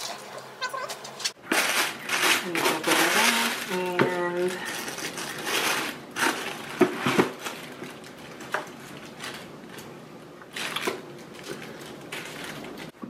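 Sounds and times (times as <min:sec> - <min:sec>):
fabric and packaging rustling: 0:00.8 - 0:13.0.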